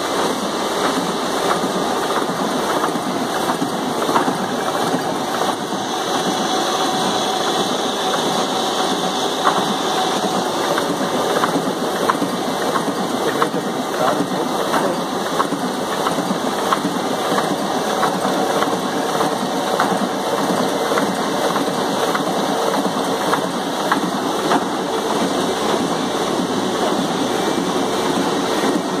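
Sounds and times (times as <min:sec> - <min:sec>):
printing press clatter: 0:00.0 - 0:29.0.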